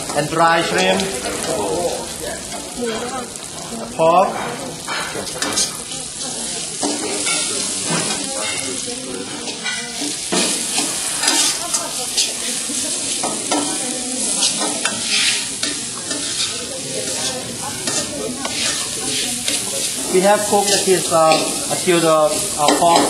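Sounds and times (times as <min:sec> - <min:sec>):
meat sizzling in hot oil: 0:00.0 - 0:23.0
metal spatula scraping wok: 0:00.0 - 0:23.0.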